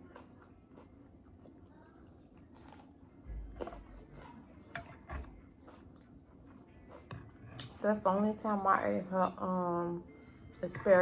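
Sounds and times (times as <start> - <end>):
chewing and eating: 0.0 - 11.0.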